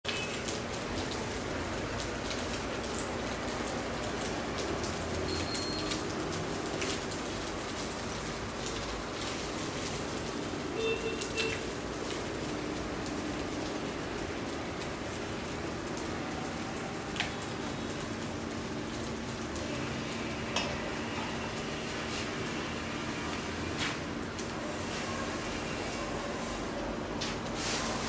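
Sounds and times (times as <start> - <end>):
fish sizzling in hot oil: 0.1 - 26.7.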